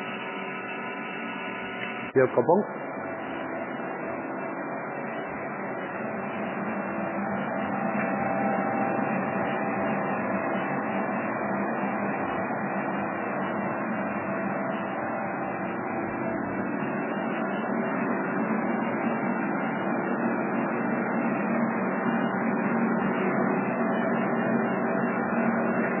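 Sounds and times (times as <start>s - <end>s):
grinding machine hum: 0.0s - 26.0s.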